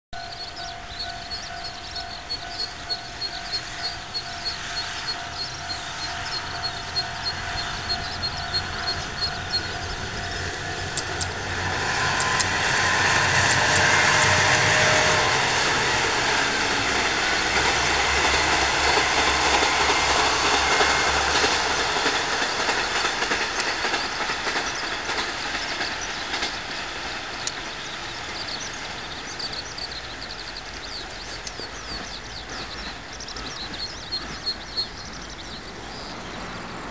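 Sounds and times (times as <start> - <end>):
diesel train passing: 0.2 - 36.9.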